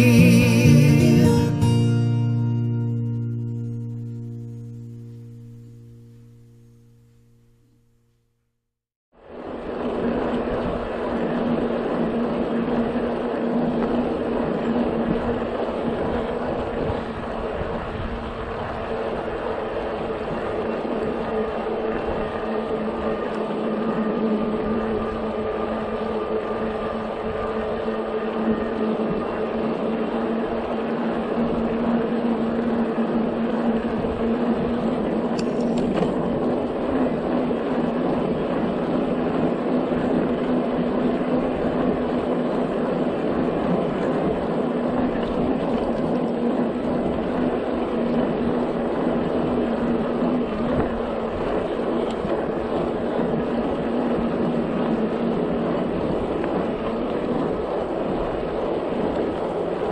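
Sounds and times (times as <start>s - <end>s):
wind and tyre rush: 9.1s - 59.9s
electric motor hum: 9.5s - 59.9s.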